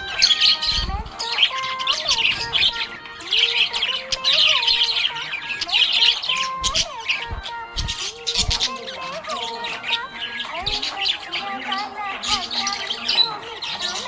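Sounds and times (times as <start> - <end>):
budgerigars chirping and warbling: 0.0 - 14.0.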